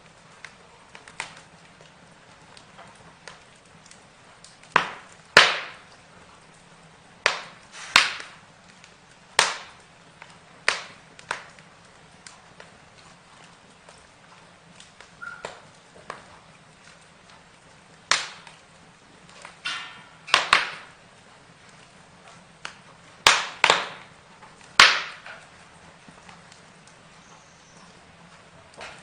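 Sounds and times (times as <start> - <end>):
burning wood crackling: 0.0 - 29.0
faint steady hiss: 0.0 - 29.0
fire popping sharply: 0.0 - 29.0.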